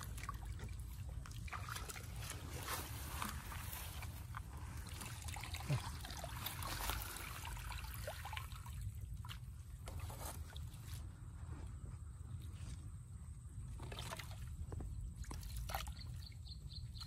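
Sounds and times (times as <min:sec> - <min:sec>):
water trickling and splashing: 0:00.0 - 0:11.2, 0:13.6 - 0:17.0.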